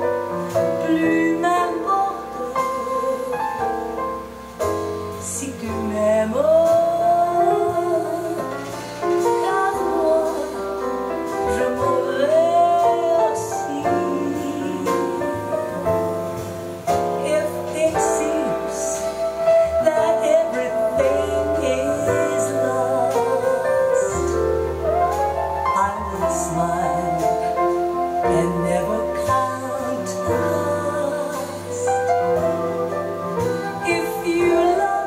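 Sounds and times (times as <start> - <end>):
instrumental accompaniment: 0.0 - 35.0
person singing a slow ballad: 0.4 - 4.0, 5.1 - 25.1, 25.7 - 35.0.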